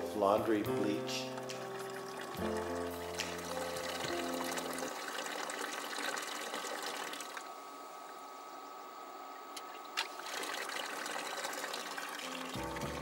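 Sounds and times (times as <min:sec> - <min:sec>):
water trickling into cooler sump: 0:00.6 - 0:13.0.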